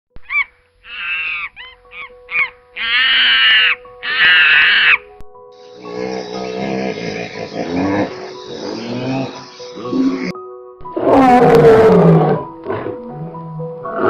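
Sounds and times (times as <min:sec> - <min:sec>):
harsh animal calls: 0:00.2 - 0:05.1, 0:05.8 - 0:14.0
music: 0:00.6 - 0:14.0.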